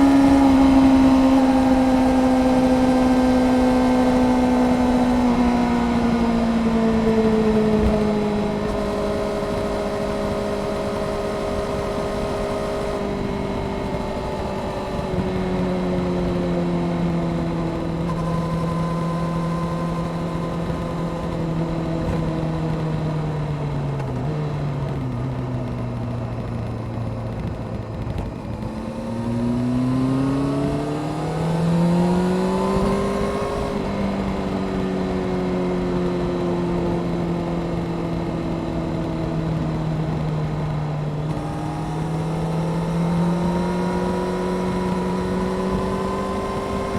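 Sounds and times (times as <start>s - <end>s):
motorcycle engine: 0.0s - 46.9s
rushing wind: 0.0s - 46.9s.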